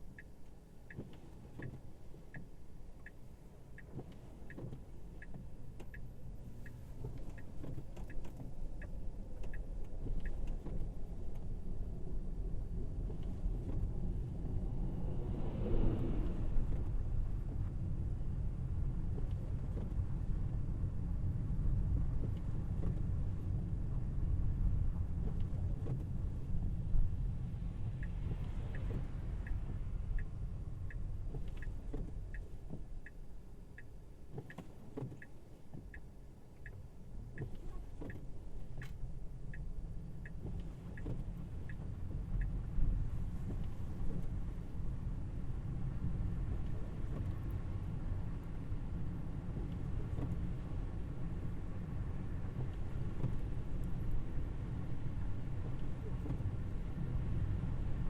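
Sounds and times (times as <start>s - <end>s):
turn signal ticking: 0.0s - 14.7s, 21.8s - 23.8s, 24.8s - 58.0s
road and tyre rumble: 0.0s - 58.0s.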